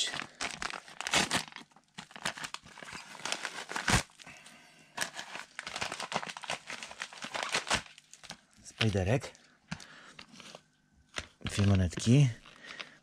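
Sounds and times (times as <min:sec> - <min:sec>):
packaging crinkling and tearing: 0:00.0 - 0:13.0.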